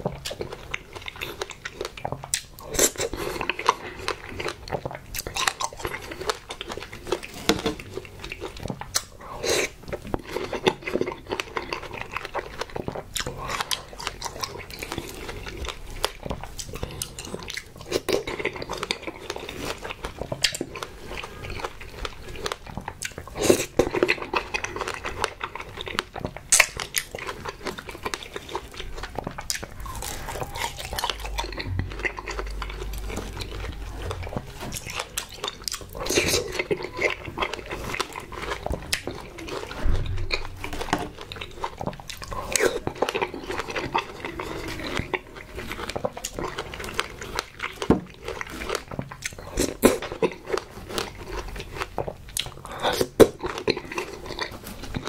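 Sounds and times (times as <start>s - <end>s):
chewing and biting: 0.0s - 55.0s.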